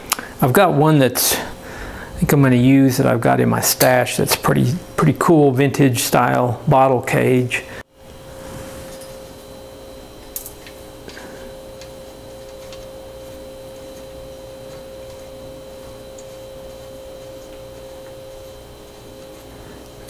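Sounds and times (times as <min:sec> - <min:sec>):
steady humming tone: 0:00.0 - 0:20.0.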